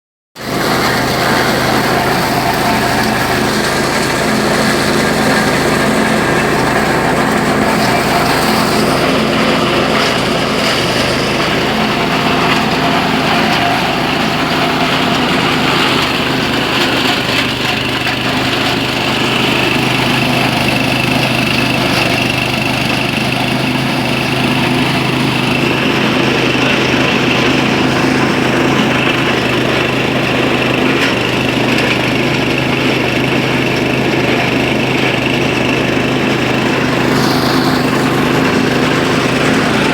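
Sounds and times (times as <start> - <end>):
crackle of shredding corn stalks: 0.4 - 32.7
grass chopper engine humming: 0.4 - 39.9.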